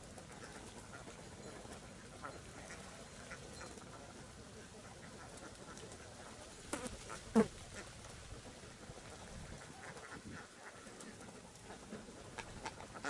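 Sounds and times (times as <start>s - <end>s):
ducks quacking: 0.1s - 13.0s.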